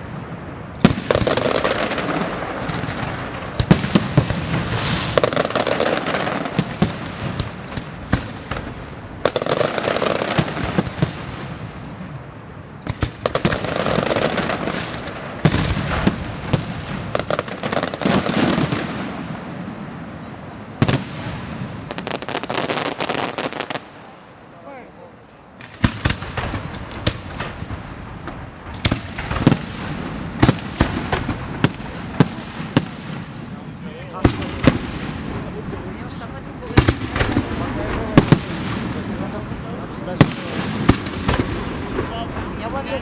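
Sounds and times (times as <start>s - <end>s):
fireworks bangs and crackling: 0.0s - 24.4s, 25.4s - 43.0s.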